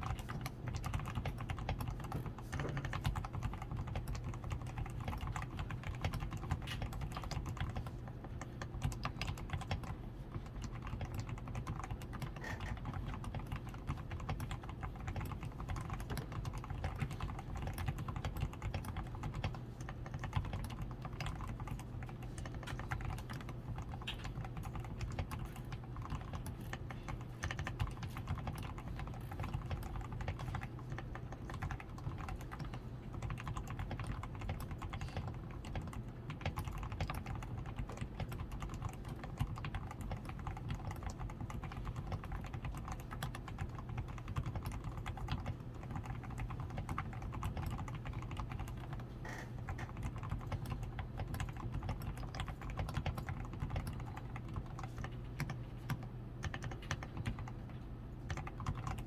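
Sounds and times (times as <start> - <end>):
low steady hum: 0.0 - 59.0
mechanical keyboard typing: 0.0 - 59.0.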